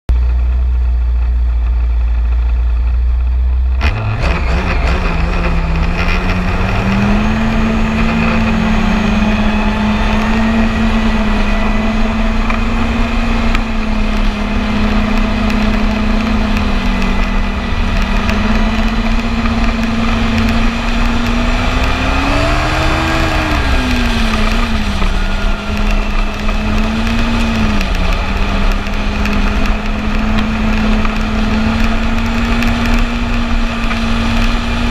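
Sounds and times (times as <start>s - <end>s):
snowmobile engine: 0.2s - 34.9s.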